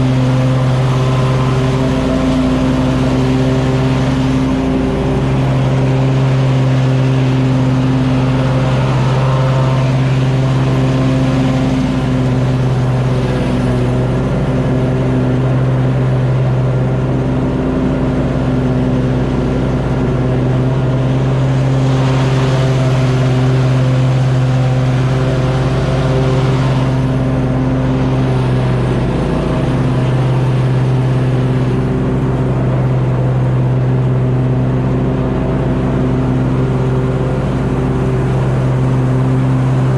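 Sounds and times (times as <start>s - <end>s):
riding mower running: 0.0s - 39.9s.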